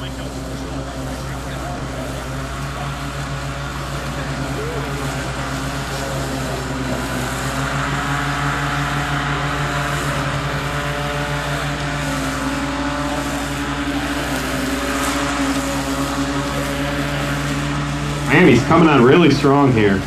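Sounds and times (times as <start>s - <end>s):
robotic lawn mower humming: 0.0s - 20.0s.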